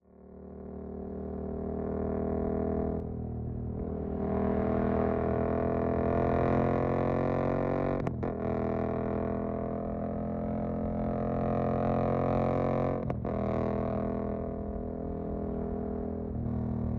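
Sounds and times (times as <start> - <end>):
motorcycle engine accelerating: 0.1 - 16.9.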